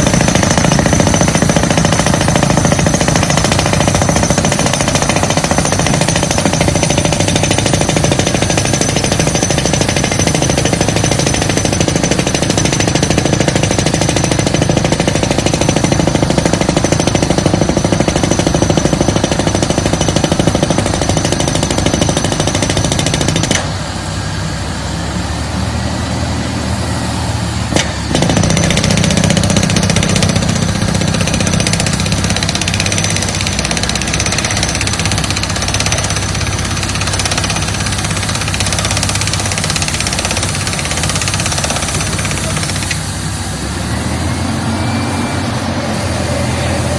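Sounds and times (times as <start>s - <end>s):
air hammer drilling: 0.0s - 23.8s, 27.8s - 44.1s.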